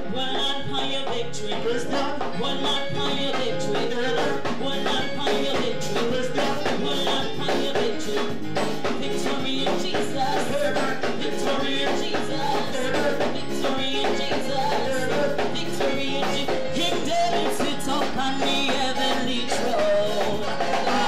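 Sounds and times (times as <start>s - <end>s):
band music with steady beat: 0.0s - 21.0s
two people singing gospel: 0.0s - 21.0s.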